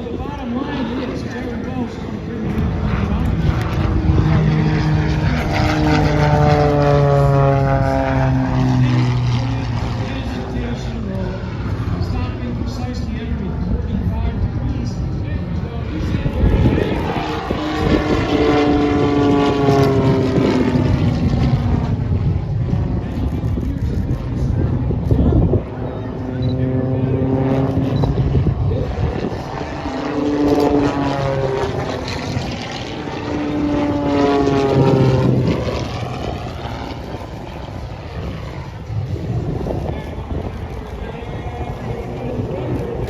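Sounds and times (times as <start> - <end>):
aircraft engine passing low: 0.0 - 43.0
steady rumble: 0.0 - 43.0.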